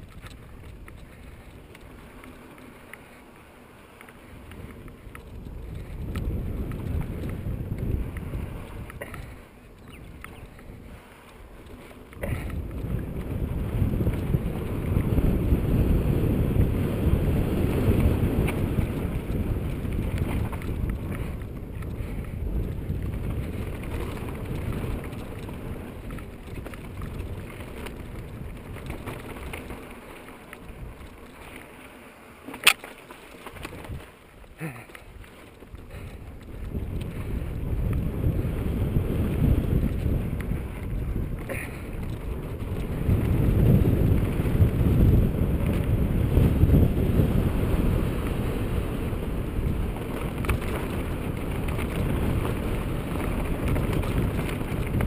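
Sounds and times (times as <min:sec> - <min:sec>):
wind buffeting microphone: 0:00.0 - 0:03.4, 0:04.1 - 0:31.8, 0:32.5 - 0:55.0
bike tyres rumbling on dirt: 0:00.0 - 0:55.0.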